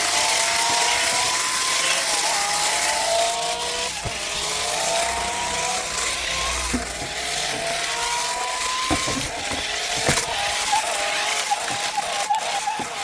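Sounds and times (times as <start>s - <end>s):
toy motor whining: 0.0s - 13.0s.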